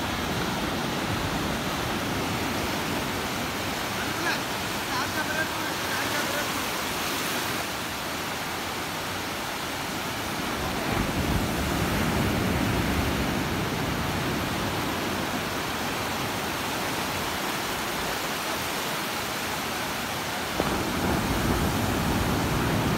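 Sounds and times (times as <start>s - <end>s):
ocean surf breaking: 0.0s - 22.9s.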